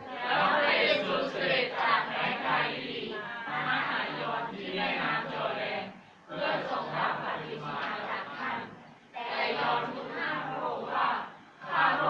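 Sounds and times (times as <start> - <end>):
congregation reading aloud in unison: 0.0 - 12.0.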